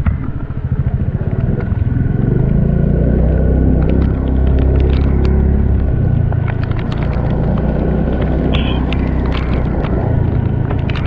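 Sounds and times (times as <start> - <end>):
scooter engine droning: 0.0 - 11.0.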